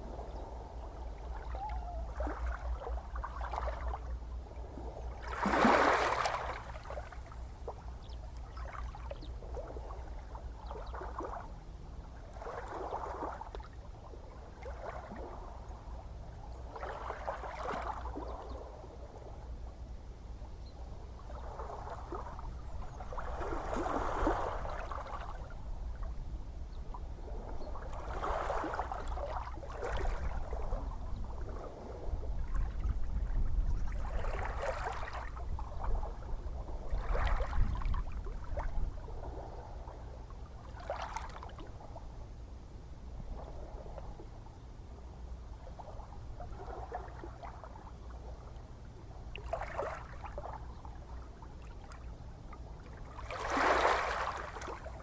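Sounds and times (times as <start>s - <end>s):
small waves lapping and splashing: 0.0s - 19.8s, 20.8s - 42.3s, 43.0s - 55.0s
low rumble of sea: 0.0s - 55.0s.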